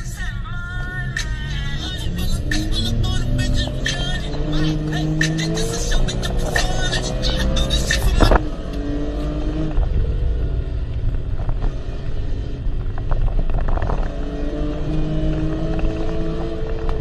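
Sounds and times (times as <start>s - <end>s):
car engine from inside cabin: 0.0s - 17.0s
road rumble: 0.0s - 17.0s.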